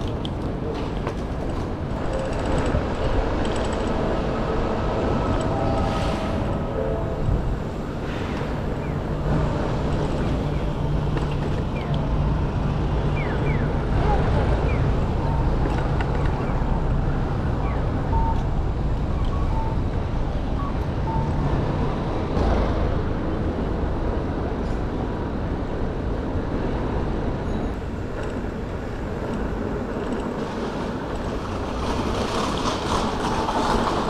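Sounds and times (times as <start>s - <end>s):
street traffic: 0.0s - 34.0s
wind rumbling on microphone: 0.0s - 34.0s.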